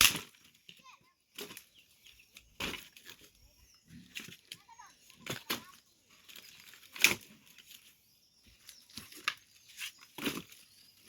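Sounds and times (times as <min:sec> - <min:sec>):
firewood rustling and knocking: 0:00.0 - 0:07.8, 0:08.5 - 0:10.8.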